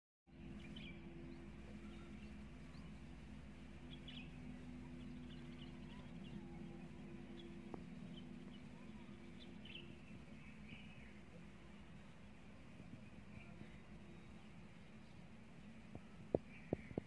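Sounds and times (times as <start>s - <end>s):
low hum and hiss: 0.3s - 17.0s.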